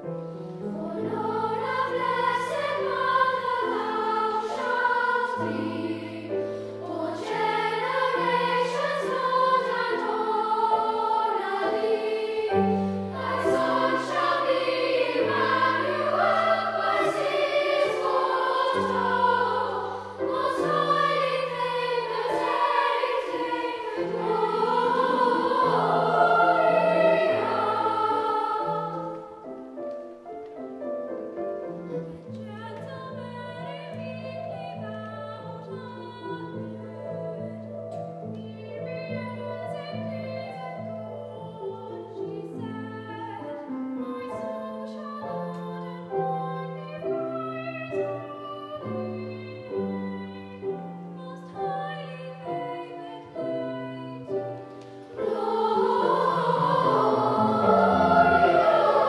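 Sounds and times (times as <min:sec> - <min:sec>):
children's choir singing: 0:00.0 - 0:30.2, 0:32.2 - 0:59.0.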